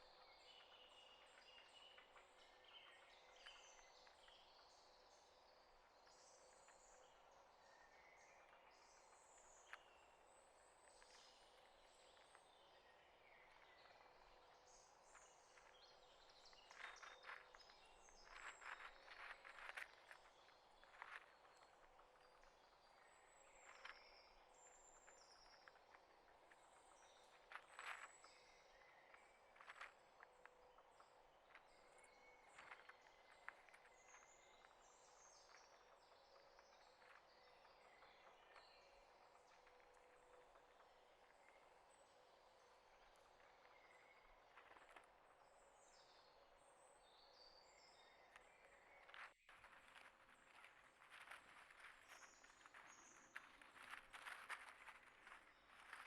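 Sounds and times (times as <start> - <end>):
small birds chirping: 0.0 - 56.0
steady outdoor hiss: 0.0 - 56.0.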